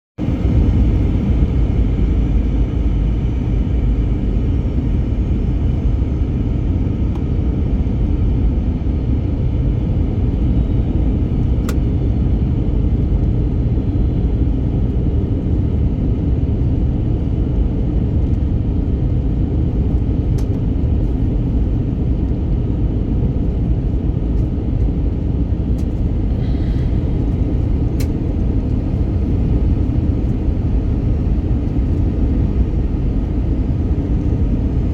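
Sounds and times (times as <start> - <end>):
airplane cabin engine rumble: 0.2 - 34.9.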